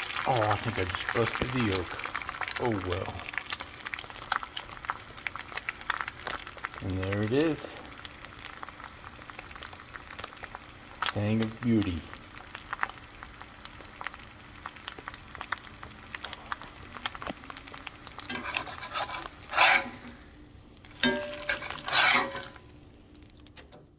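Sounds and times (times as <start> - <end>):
egg sizzling in oil: 0.0 - 23.9.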